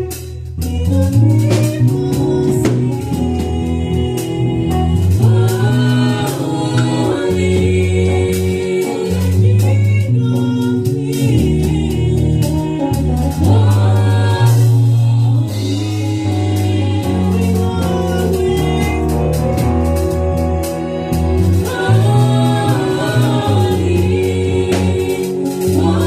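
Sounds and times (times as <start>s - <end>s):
group singing gospel over band: 0.0s - 26.0s.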